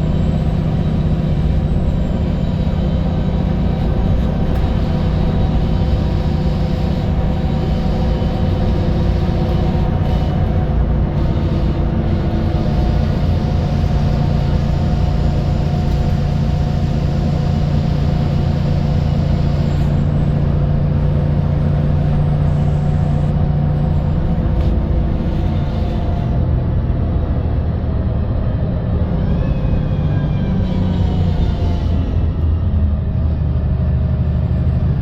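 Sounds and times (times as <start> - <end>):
bus engine droning: 0.0 - 35.0.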